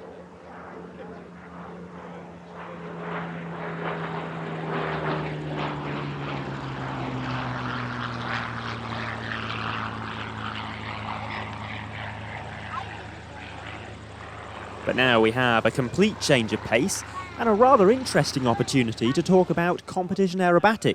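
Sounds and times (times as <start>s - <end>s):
propeller aircraft engine passing: 0.0s - 20.9s.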